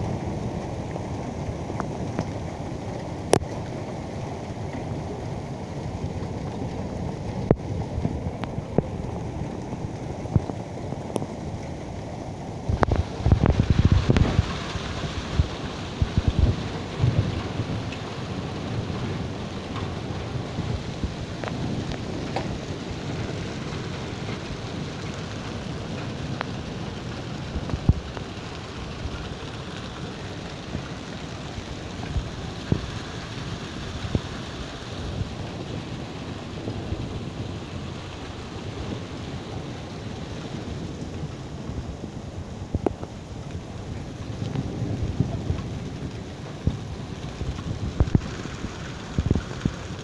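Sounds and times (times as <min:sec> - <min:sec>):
hail clattering on wet pavement: 0:00.0 - 0:50.0.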